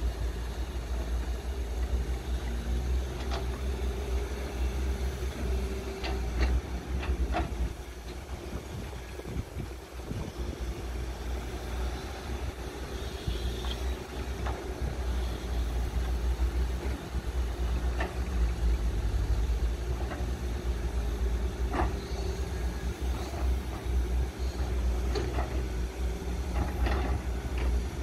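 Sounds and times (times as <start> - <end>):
excavator diesel engines rumbling: 0.0 - 28.0.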